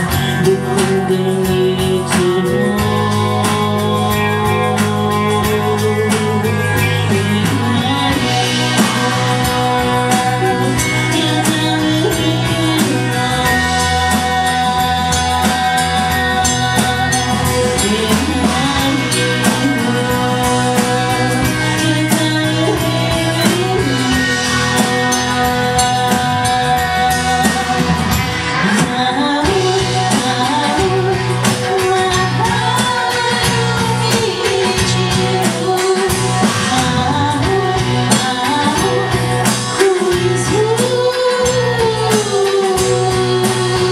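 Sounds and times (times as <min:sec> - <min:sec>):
drum kit: 0:00.0 - 0:43.9
woman singing: 0:00.0 - 0:43.9.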